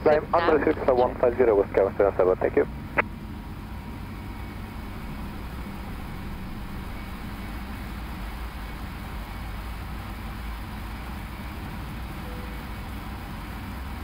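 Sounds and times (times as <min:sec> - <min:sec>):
cockpit engine and airflow noise: 0:00.0 - 0:14.0.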